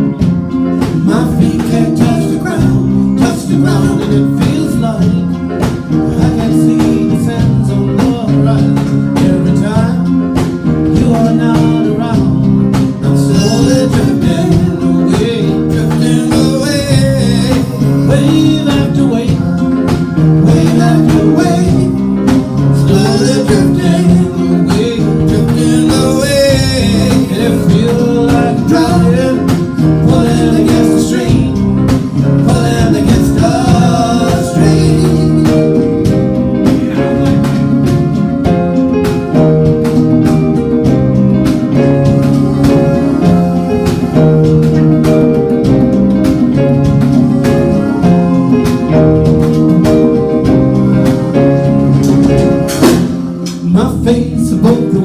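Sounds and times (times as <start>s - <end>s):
guitar strumming: 0.0s - 55.0s
person singing: 0.0s - 55.0s.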